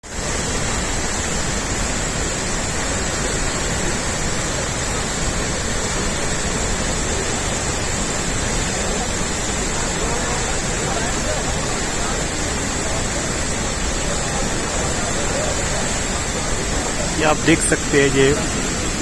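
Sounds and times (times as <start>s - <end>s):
waterfall rushing: 0.1s - 19.0s.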